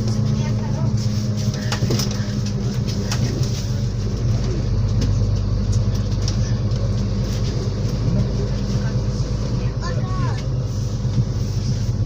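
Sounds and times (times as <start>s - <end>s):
bus engine humming: 0.0s - 12.0s
road noise: 0.0s - 12.0s.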